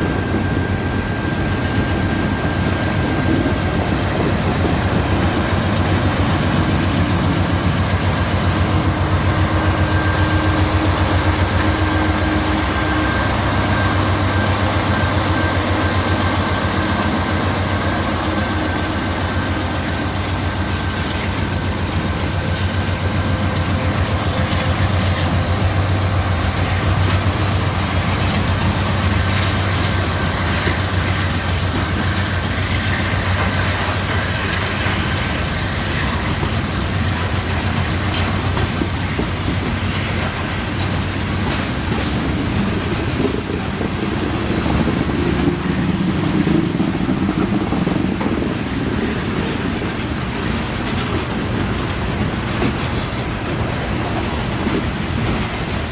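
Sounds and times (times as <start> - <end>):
diesel locomotive engine drone: 0.0 - 55.9
steel wheels rumbling on rails: 0.0 - 55.9.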